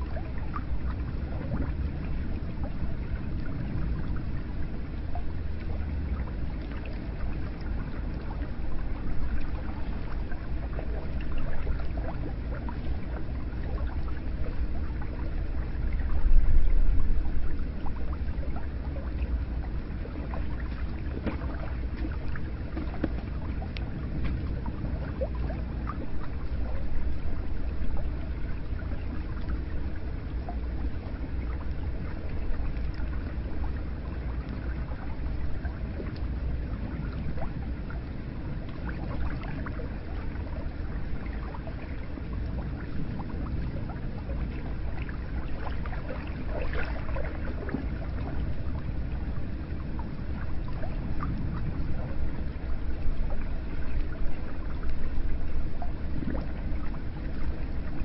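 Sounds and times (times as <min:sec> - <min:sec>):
small water drips: 0:00.0 - 0:57.9
hot spring water splashing: 0:00.0 - 0:58.0.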